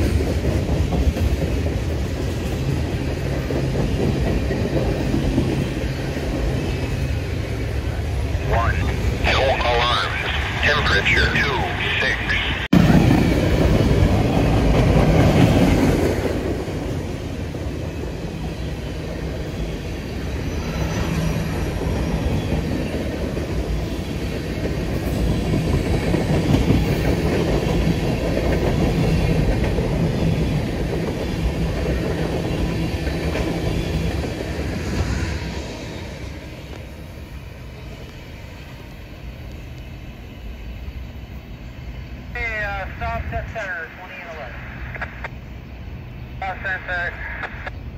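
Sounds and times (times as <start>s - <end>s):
freight train wheels rumbling on rail: 0.0s - 47.9s.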